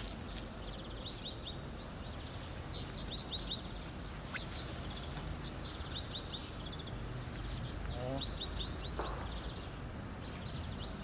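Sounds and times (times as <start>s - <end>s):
low outdoor background noise: 0.0s - 11.0s
small birds chirping: 0.0s - 11.0s.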